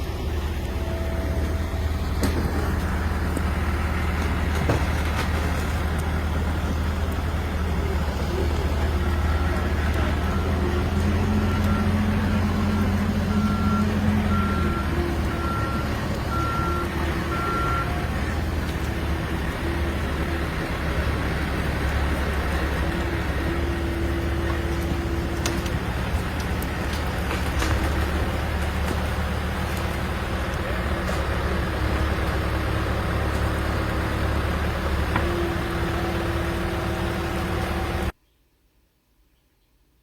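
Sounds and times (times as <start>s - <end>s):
road noise: 0.0s - 38.2s
vehicle engine rumble: 0.0s - 38.2s.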